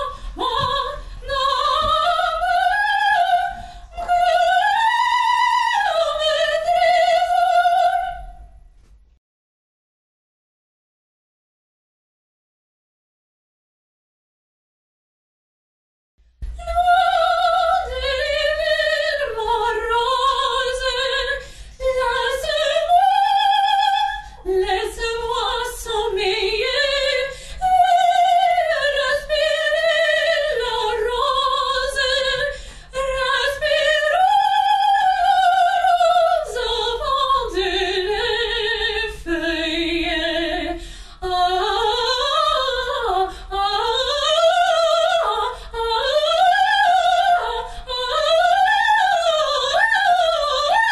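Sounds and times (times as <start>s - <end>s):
operatic soprano singing: 0.0s - 8.4s, 16.5s - 50.9s.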